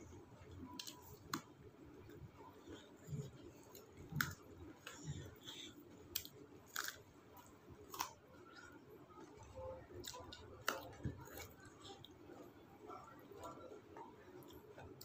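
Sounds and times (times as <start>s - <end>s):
chewing: 0.6s - 15.0s.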